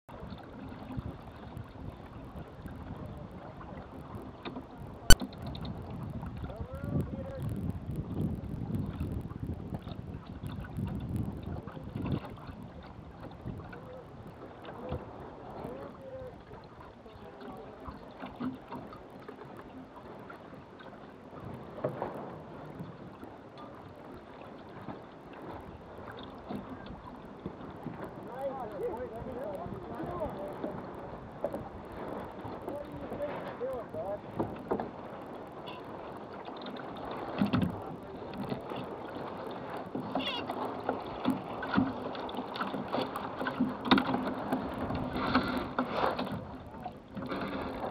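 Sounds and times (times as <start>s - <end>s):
water washing along a hull: 0.1s - 47.9s
wind rumbling on microphone: 0.1s - 47.9s.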